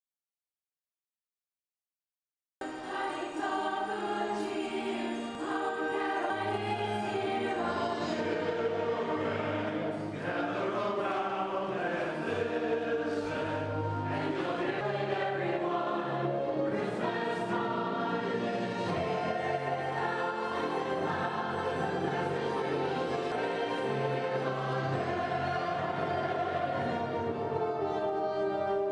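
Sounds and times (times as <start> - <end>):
choir singing in harmony: 2.6 - 28.9.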